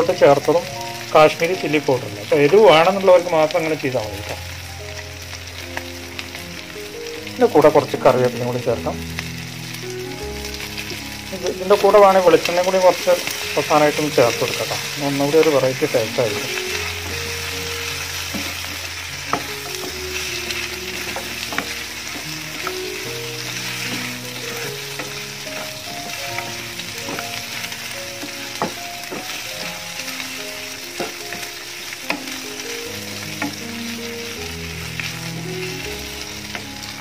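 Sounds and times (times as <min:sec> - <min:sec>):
chicken sizzling in a pan: 0:00.0 - 0:37.0
soft background music: 0:00.0 - 0:37.0.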